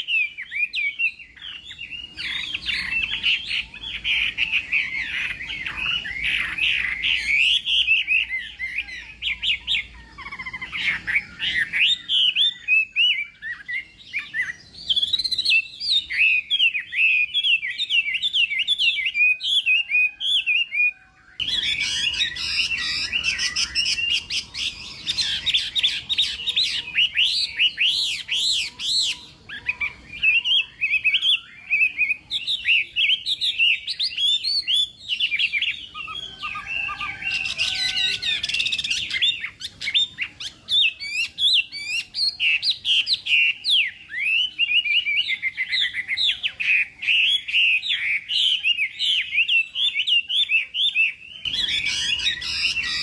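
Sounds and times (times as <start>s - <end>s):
bird singing whistled phrases: 0.0s - 53.0s.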